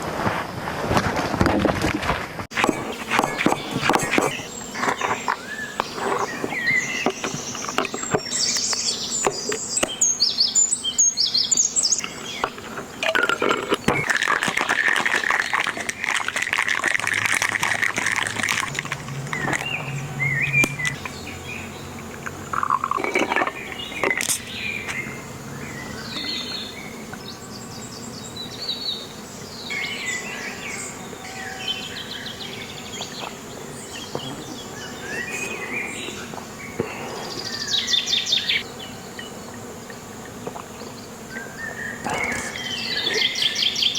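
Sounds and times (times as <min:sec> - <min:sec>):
birds chirping: 0:02.5 - 0:43.9
insects buzzing: 0:02.5 - 0:43.9.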